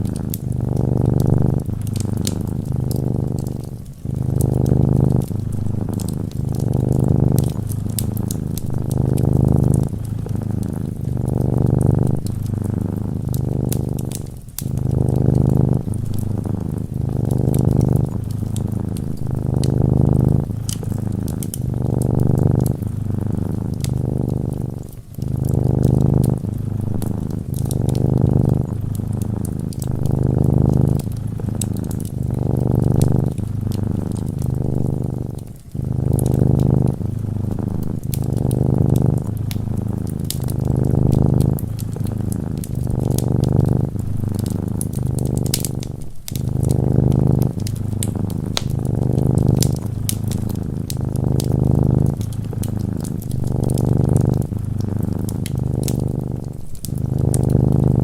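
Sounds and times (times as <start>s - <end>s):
cat purring: 0.0s - 58.0s
wood fire crackling: 0.0s - 58.0s.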